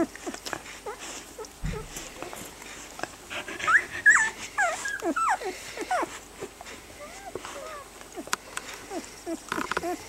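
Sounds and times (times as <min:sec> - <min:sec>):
puppies whimpering: 0:00.0 - 0:10.0.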